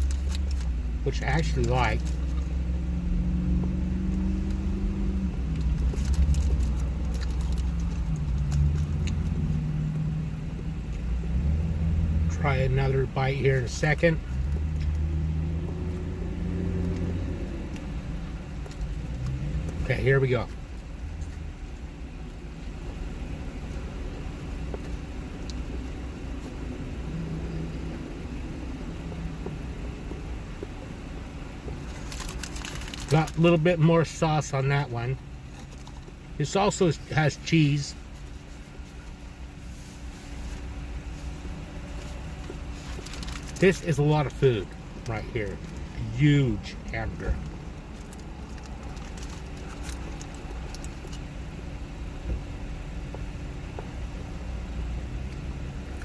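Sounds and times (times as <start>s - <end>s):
car engine idling: 0.0s - 56.0s
low vehicle rumble in cabin: 0.0s - 56.0s.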